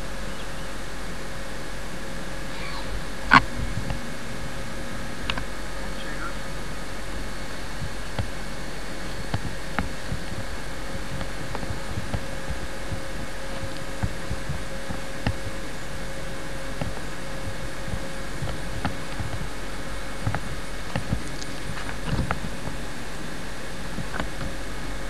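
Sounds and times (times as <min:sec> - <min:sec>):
faint hum: 0:00.0 - 0:25.0.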